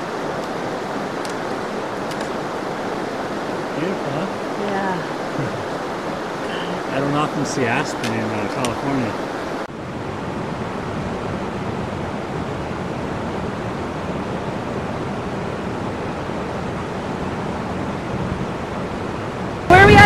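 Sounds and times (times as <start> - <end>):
mountain river rushing: 0.0 - 20.0.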